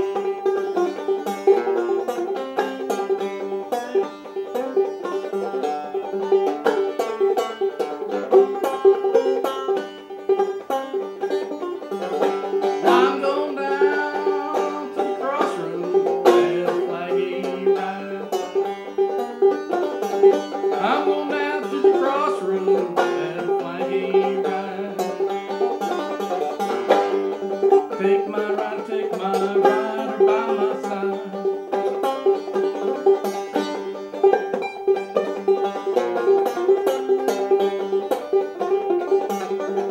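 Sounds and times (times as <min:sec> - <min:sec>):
banjo playing: 0:00.0 - 0:39.9.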